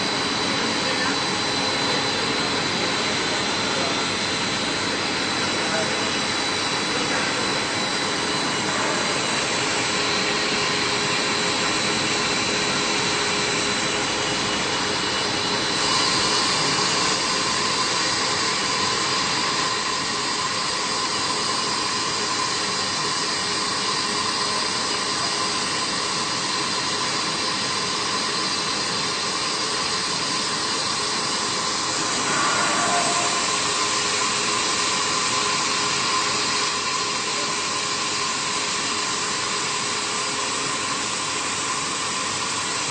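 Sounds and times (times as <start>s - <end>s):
wire drawing machine whirring hiss: 0.0s - 42.9s.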